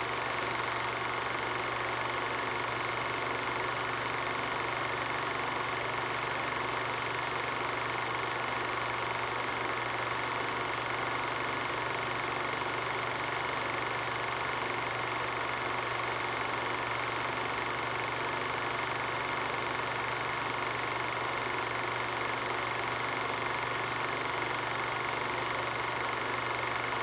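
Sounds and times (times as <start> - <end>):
film projector running: 0.0 - 27.0.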